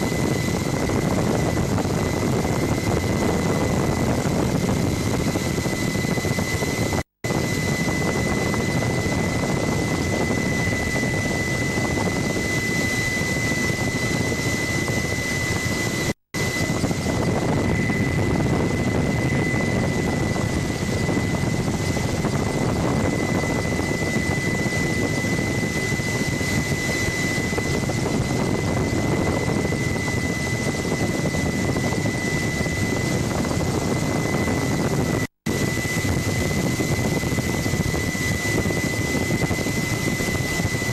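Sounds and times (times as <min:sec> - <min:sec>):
helicopter rumble with high whine: 0:00.0 - 0:40.9.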